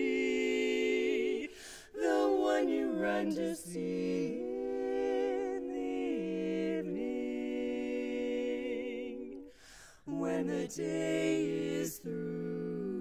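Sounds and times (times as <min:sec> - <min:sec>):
women singing a cappella chord: 0:00.0 - 0:13.0.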